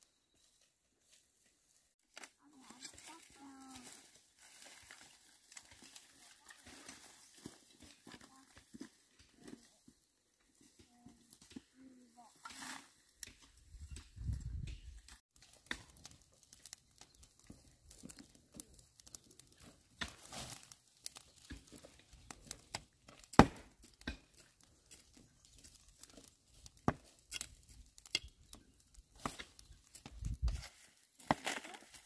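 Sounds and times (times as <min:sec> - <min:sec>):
dry grass crackling and rustling: 0:00.4 - 0:09.9, 0:10.5 - 0:32.0.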